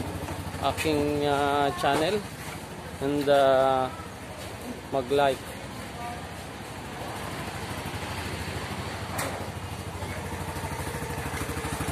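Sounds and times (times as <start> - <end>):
auto-rickshaw engine idling: 0.0 - 11.9.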